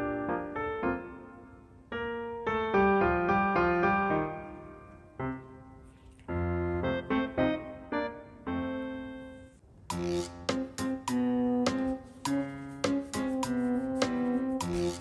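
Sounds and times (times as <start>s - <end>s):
keyboard melody: 0.0s - 15.0s.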